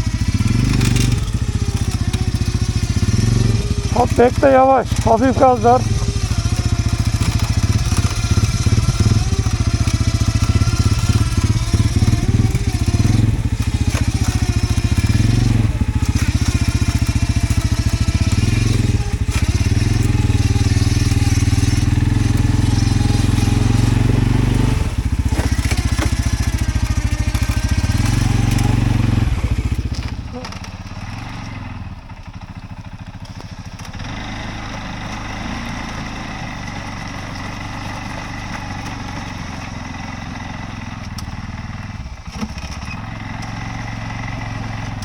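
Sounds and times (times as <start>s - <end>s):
atv engine at low throttle: 0.0s - 45.0s.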